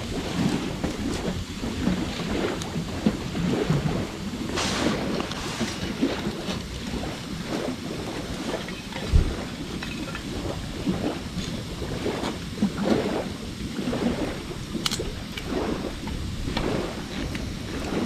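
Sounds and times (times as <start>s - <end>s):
campfire rushing: 0.0s - 18.0s.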